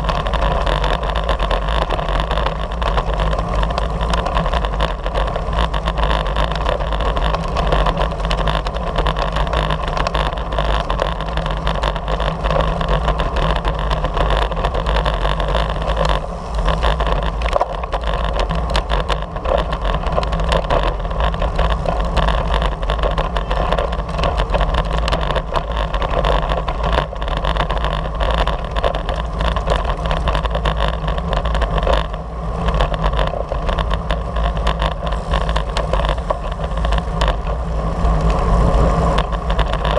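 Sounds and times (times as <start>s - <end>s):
tyre noise on asphalt: 0.0s - 39.9s
wind buffeting microphone: 0.0s - 39.9s.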